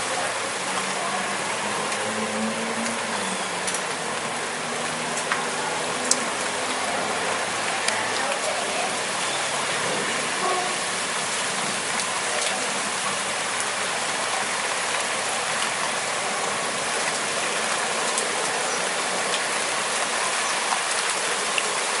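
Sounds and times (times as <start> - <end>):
heavy rain falling: 0.0 - 22.0
raindrops ticking: 0.0 - 22.0.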